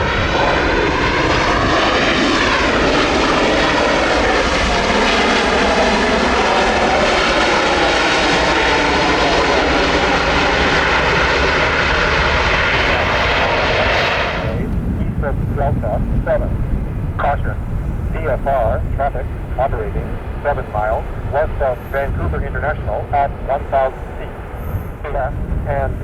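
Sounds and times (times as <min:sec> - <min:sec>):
airliner engines passing: 0:00.0 - 0:26.0.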